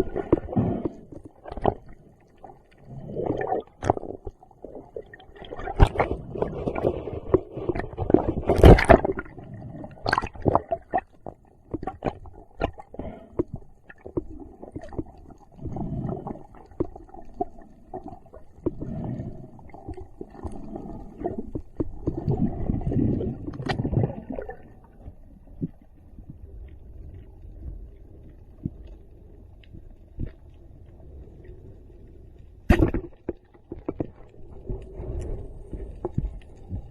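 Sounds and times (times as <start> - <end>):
water bubbling muffled: 0.0 - 36.9.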